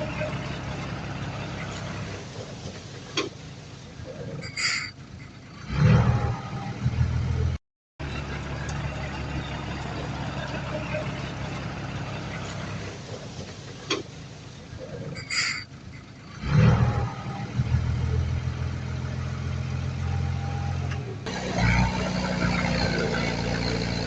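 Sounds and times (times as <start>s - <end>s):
heavy machinery diesel engine: 0.0s - 4.3s, 5.0s - 24.0s.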